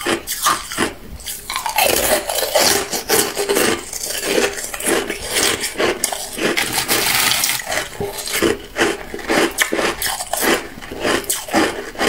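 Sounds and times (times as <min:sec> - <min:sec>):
ice crunched between teeth: 0:00.0 - 0:12.0.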